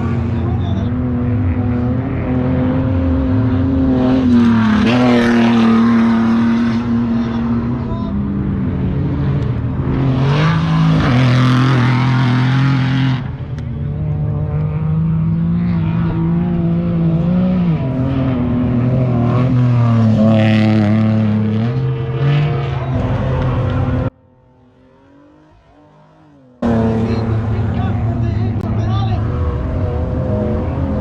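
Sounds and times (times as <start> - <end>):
race vehicle engine revving: 0.0 - 31.0.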